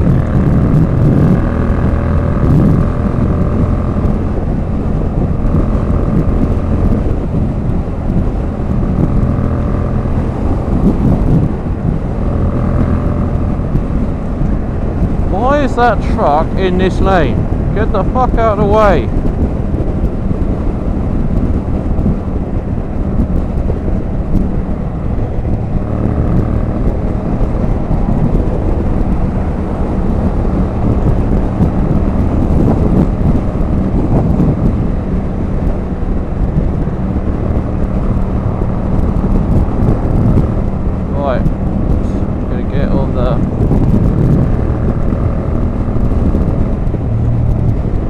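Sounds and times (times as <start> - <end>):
motorcycle engine drone: 0.0 - 48.0
wind rushing over microphone: 0.0 - 48.0.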